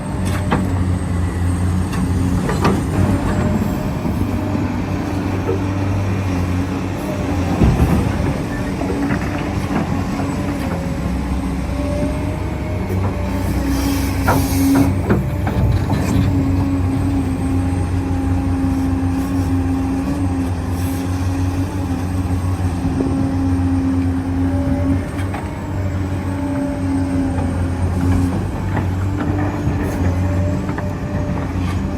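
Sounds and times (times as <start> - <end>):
electric motors whining: 0.0 - 31.9.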